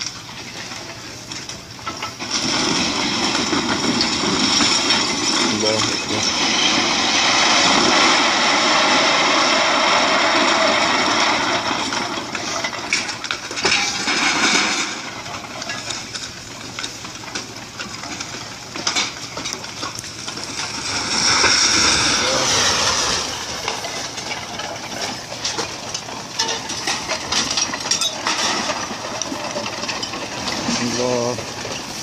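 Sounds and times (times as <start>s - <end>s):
rush of sliding earth and debris: 0.0s - 32.0s
timber and buildings cracking: 0.0s - 32.0s.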